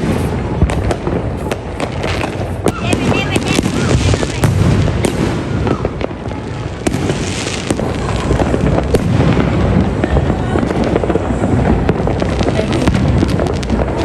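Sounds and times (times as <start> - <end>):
fireworks crackling and booming: 0.0 - 14.0.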